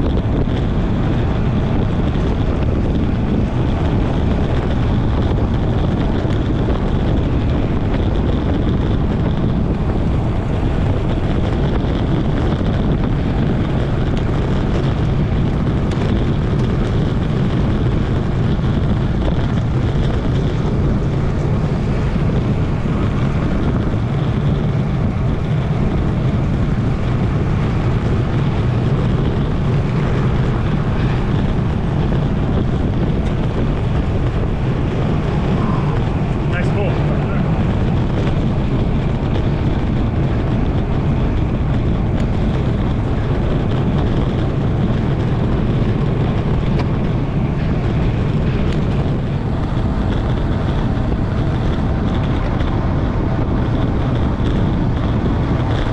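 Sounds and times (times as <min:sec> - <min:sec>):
wind rush on microphone: 0:00.0 - 0:55.9.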